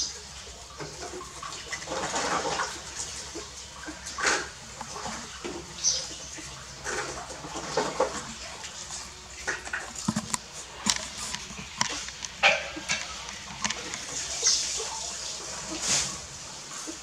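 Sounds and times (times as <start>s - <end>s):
puppies suckling wet smacking: 0.3s - 15.9s.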